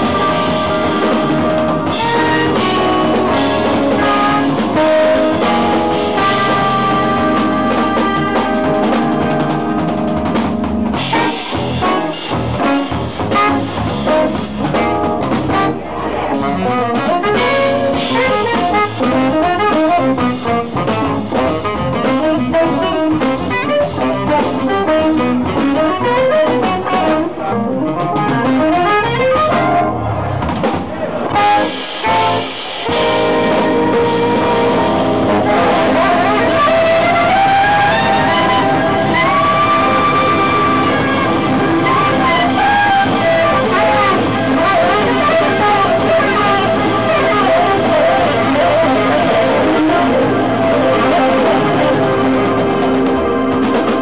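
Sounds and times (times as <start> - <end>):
cymbals: 0.0 - 27.5, 28.2 - 54.0
saxophone lead: 0.0 - 30.4, 31.2 - 54.0
live jazz band playing: 0.0 - 54.0.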